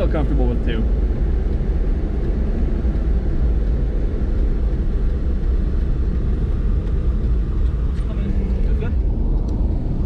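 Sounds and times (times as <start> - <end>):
truck engine rumble: 0.0 - 10.0.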